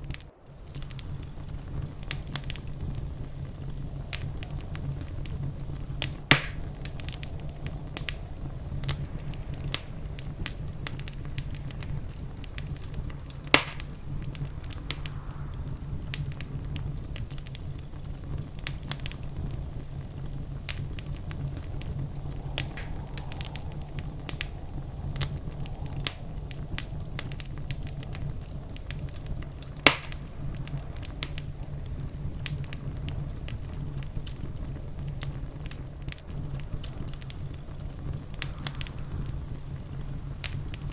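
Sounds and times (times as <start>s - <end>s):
loud fire pops: 0.0s - 40.9s
steady low rumble: 0.0s - 40.9s
wood fire crackling: 0.0s - 40.9s.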